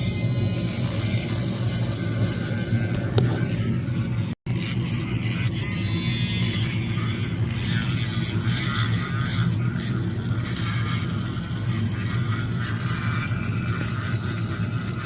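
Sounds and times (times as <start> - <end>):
machine hum with low drone: 0.0 - 15.0.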